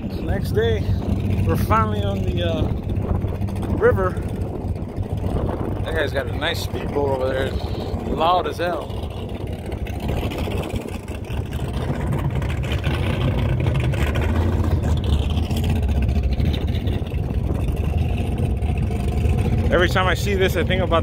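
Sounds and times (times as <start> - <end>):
motorboat engine rumbling: 0.0 - 21.0.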